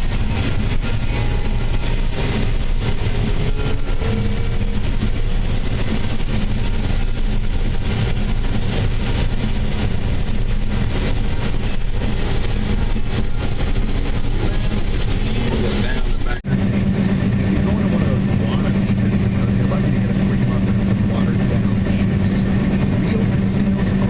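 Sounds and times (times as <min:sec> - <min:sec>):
harvester engine drone: 0:00.0 - 0:24.0
mechanical rush: 0:00.0 - 0:24.0.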